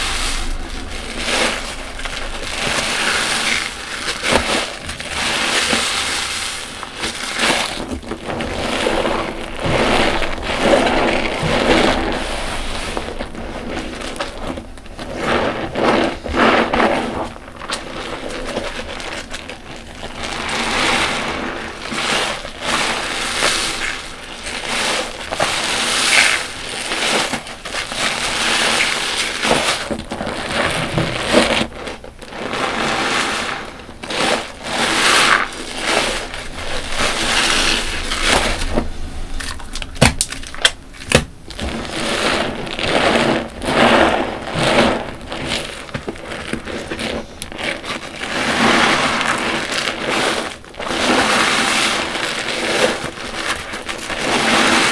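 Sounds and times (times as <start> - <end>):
sponge squelching soapy water: 0.0 - 54.9.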